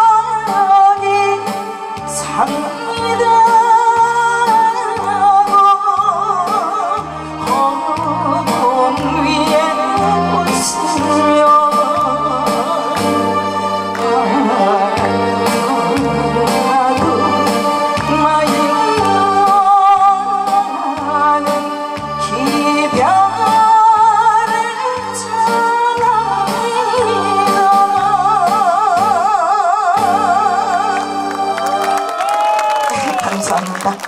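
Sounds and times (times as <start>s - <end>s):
backing track with pulsing bass: 0.0s - 34.0s
woman singing into a microphone: 0.0s - 34.0s.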